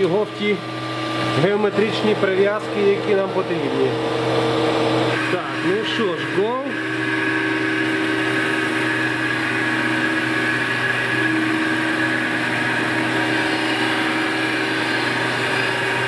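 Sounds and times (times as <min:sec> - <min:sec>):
grinding machine humming and whining: 0:00.0 - 0:16.0.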